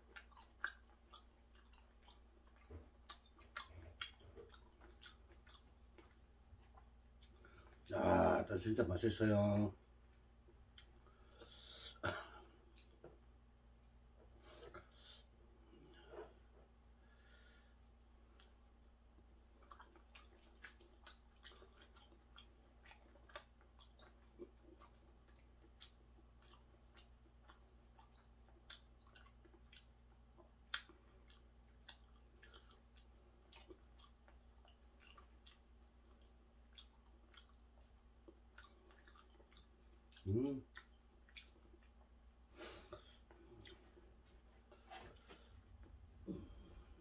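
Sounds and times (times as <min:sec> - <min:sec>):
close-up chewing: 0:00.0 - 0:07.9, 0:10.0 - 0:47.0
low steady hum: 0:00.0 - 0:47.0.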